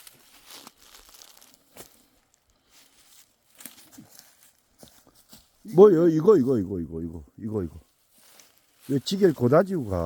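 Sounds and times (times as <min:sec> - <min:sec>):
footsteps through dry leaves: 0:00.0 - 0:06.2, 0:07.6 - 0:10.0.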